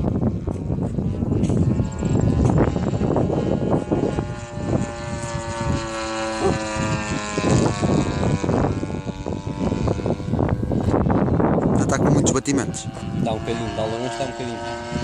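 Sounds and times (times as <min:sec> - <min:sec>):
model plane engine droning: 0:00.0 - 0:15.0
wind rumbling on microphone: 0:00.0 - 0:15.0.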